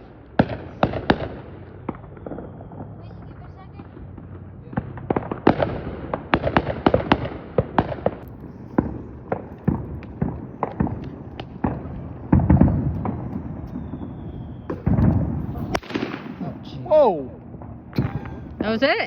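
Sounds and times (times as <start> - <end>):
fireworks cracking and popping: 0.0 - 19.0
heavy firework bangs: 0.0 - 19.0.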